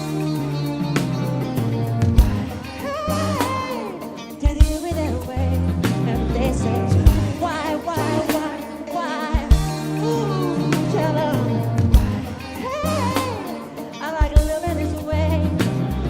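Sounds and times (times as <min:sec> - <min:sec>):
pop-soul ballad by a band: 0:00.0 - 0:16.0
wordless sung vocal ad-libs: 0:02.5 - 0:16.0.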